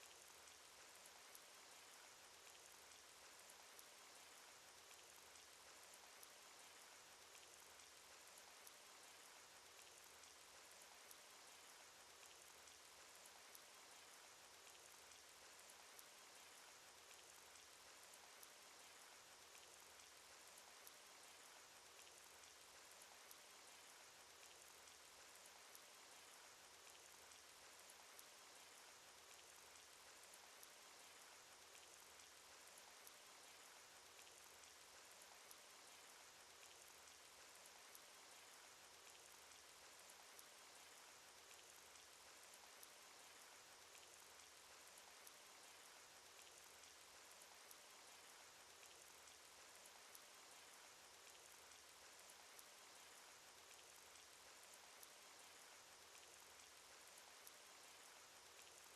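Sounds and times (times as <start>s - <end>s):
rain hiss: 0.0s - 58.9s
raindrop ticks: 0.0s - 58.9s.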